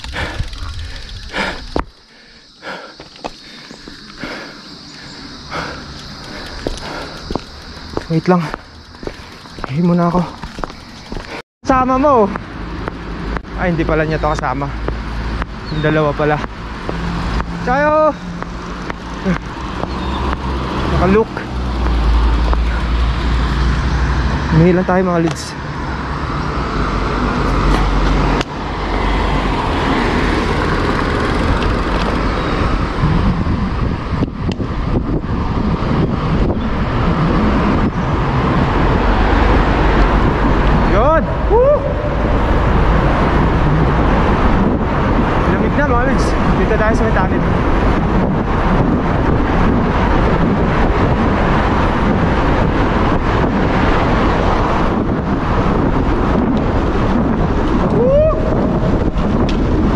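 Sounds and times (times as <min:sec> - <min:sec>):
road and traffic noise: 0:00.0 - 0:59.9
wind rush on microphone: 0:00.0 - 0:59.9.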